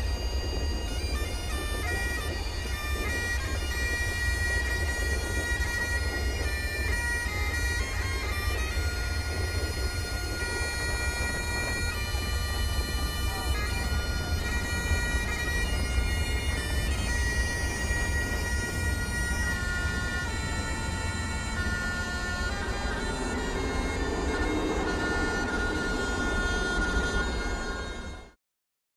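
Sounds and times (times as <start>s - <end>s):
steady low rumble: 0.0s - 28.1s
droning background music: 0.0s - 28.4s.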